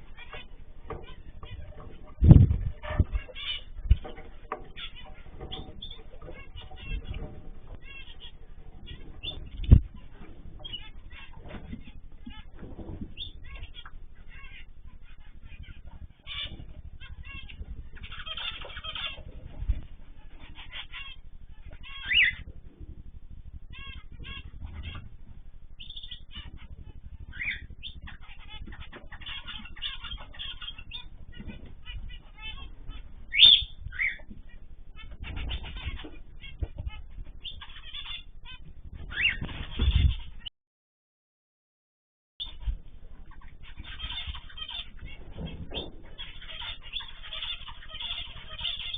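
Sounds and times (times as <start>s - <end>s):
low background rumble: 0.0s - 40.5s, 42.4s - 48.9s
small birds chirping: 0.0s - 40.5s, 42.4s - 48.9s.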